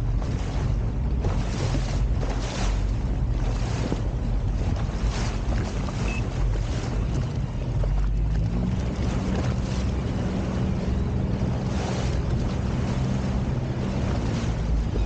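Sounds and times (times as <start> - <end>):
water washing: 0.0 - 15.0
watercraft engine humming: 0.0 - 15.0
wind buffeting microphone: 0.0 - 15.0.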